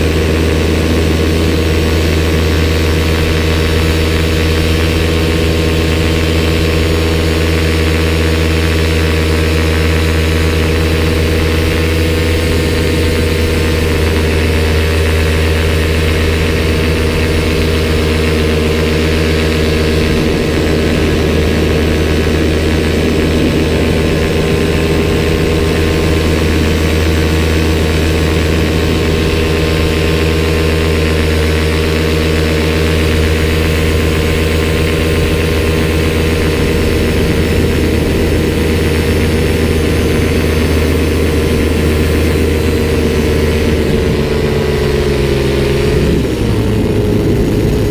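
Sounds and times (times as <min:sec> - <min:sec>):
paramotor engine drone: 0:00.0 - 0:47.9.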